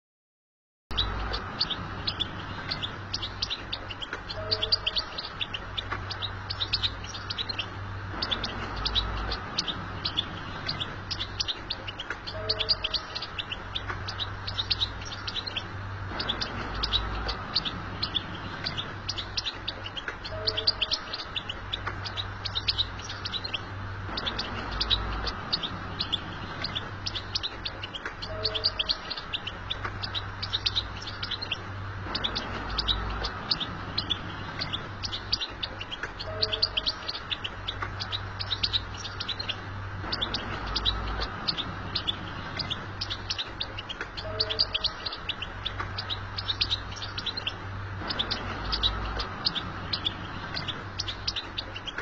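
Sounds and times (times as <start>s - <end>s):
goldfinch twittering song: 0.9s - 52.0s
steady low hum: 0.9s - 52.0s.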